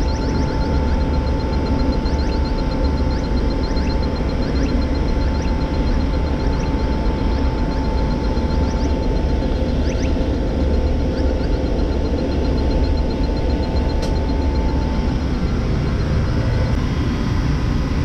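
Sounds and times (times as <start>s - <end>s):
leak detector ticking rapidly: 0.0s - 16.8s
short rising electronic chirps: 0.0s - 16.8s
air-conditioning machinery rumble: 0.0s - 18.0s.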